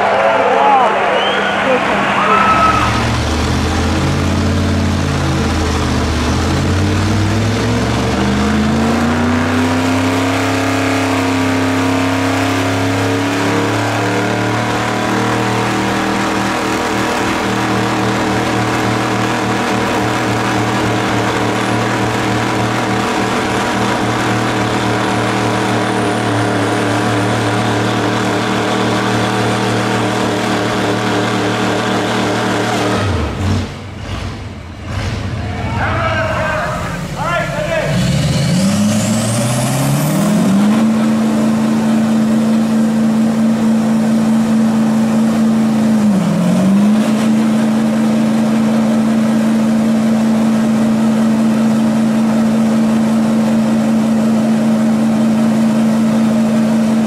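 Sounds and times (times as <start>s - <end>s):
truck engine revving high: 0.0s - 57.0s.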